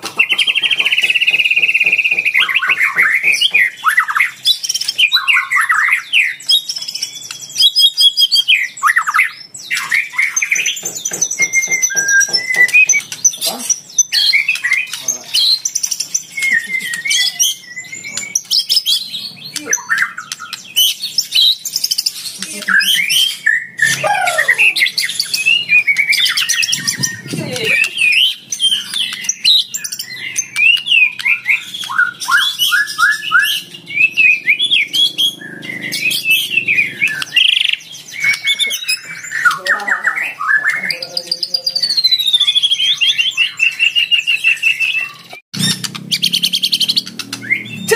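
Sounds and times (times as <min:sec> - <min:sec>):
bird singing whistles and trills: 0:00.0 - 0:47.9.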